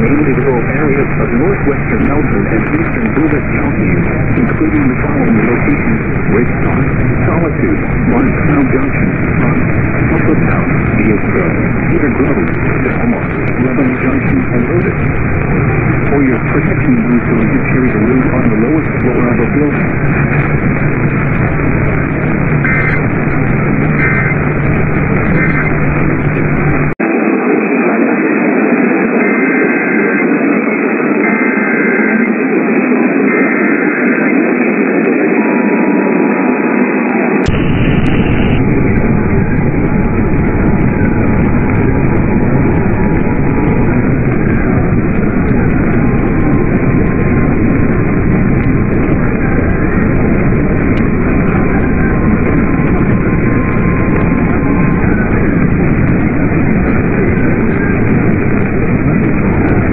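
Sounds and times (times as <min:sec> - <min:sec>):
low rumble: 0:00.0 - 0:27.0, 0:37.5 - 0:59.9
radio static hiss: 0:00.0 - 0:59.9.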